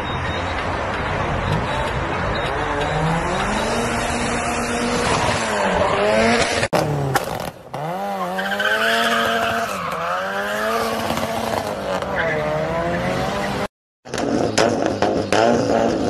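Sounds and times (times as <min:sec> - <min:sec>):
car engine revving: 0:02.5 - 0:16.0.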